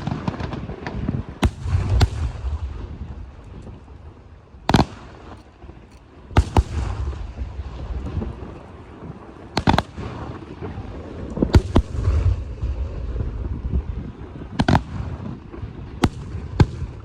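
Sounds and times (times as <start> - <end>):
firework bangs: 0.0 - 17.0
rumble of distant firework bursts: 0.0 - 17.0.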